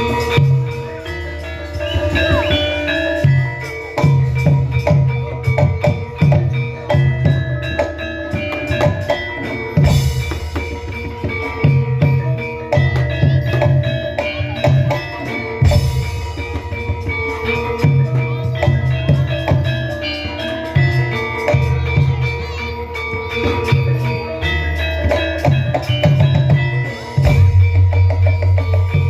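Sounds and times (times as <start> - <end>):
metallophones ringing: 0.0 - 29.0.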